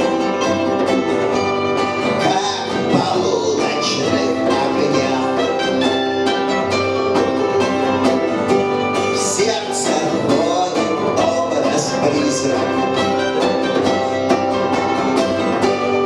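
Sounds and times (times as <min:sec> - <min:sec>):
electric guitar: 0:00.0 - 0:16.0
punk band playing live: 0:00.0 - 0:16.0.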